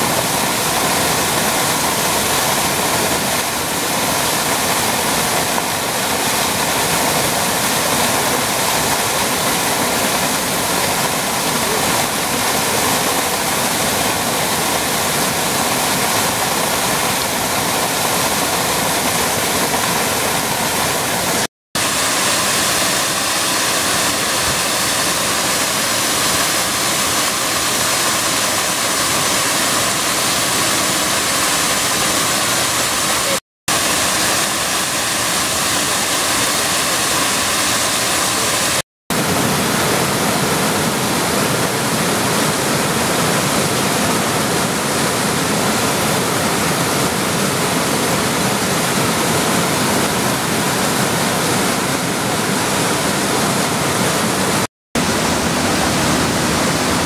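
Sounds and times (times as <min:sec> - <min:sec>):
waterfall pouring over rocks: 0:00.0 - 0:57.0.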